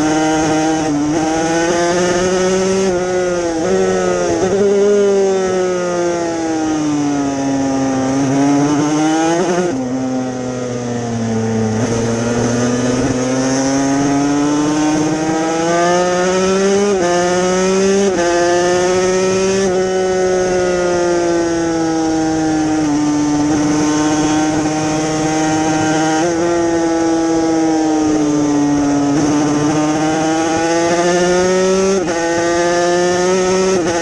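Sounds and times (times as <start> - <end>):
racing engine at high revs: 0.0 - 34.0.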